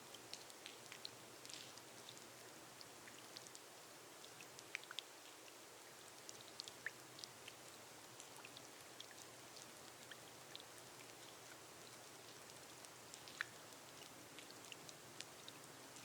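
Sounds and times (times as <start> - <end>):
light rain on a glass roof: 0.0 - 16.0.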